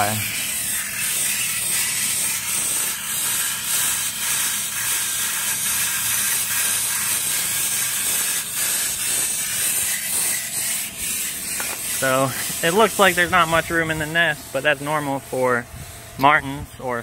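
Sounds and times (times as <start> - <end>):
nestlings raspy hissing chatter: 0.0 - 15.6.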